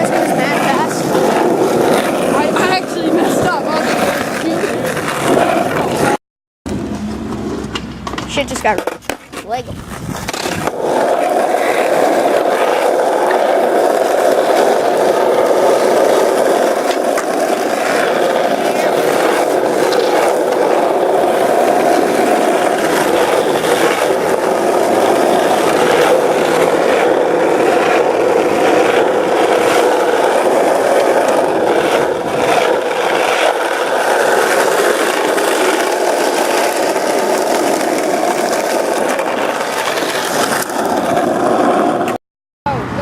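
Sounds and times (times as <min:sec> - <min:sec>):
skateboard wheels rolling on pavement: 0:00.0 - 0:42.2.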